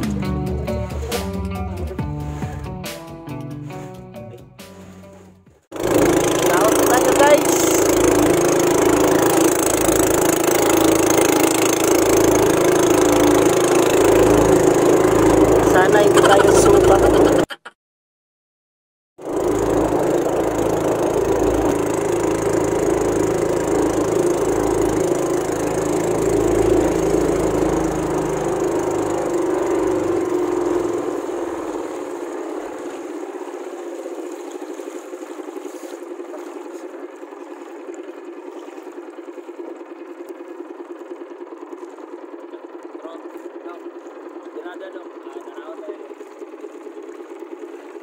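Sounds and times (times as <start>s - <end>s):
motorboat engine running: 0.0s - 17.6s, 19.2s - 48.0s.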